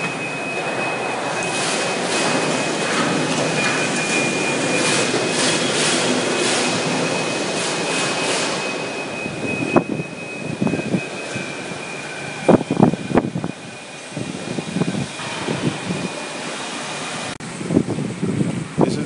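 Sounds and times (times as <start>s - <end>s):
high-pitched whine: 0.0s - 19.0s
industrial machinery noise: 0.0s - 19.0s.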